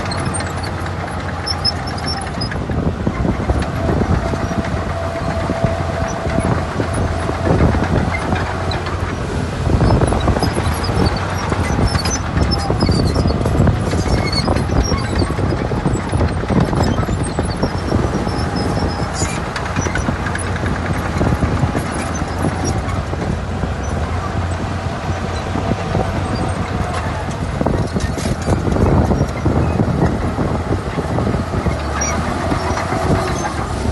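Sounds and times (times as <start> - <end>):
diesel engine running: 0.0 - 33.9
metallic clanks and rattles: 0.0 - 33.9.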